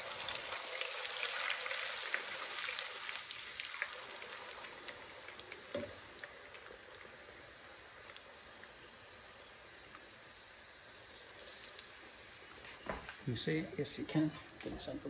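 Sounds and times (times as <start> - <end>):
food frying in oil: 0.0 - 15.0.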